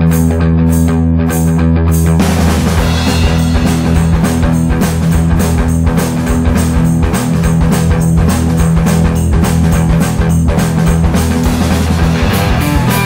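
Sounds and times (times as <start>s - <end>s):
bass guitar: 0.0s - 13.0s
drum kit beat: 0.0s - 13.0s
electric guitar: 0.0s - 13.0s.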